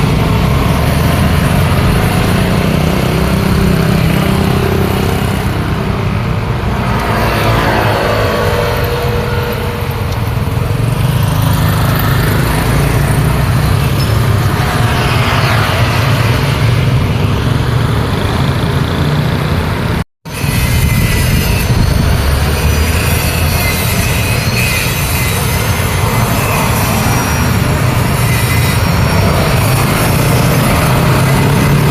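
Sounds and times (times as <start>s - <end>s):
road traffic rumble: 0.0s - 31.9s
vehicles passing by: 0.0s - 31.9s.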